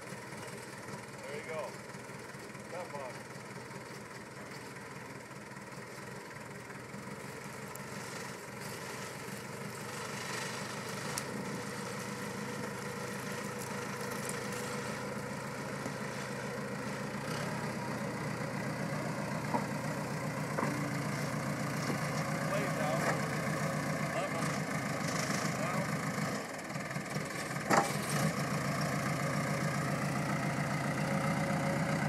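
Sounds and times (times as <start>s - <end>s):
dozer diesel engine running: 0.0s - 32.0s.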